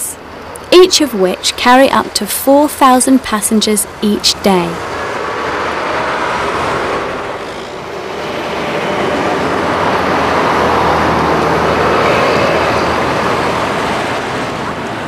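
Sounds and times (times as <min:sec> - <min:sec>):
bus driving past: 0:00.0 - 0:15.0
street traffic: 0:00.0 - 0:15.0.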